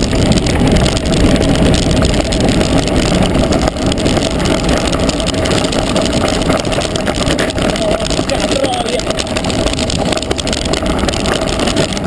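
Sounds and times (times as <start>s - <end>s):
bike rattling: 0.0s - 12.0s
tyres rumbling over stones: 0.0s - 12.0s
wind rush on microphone: 0.0s - 12.0s.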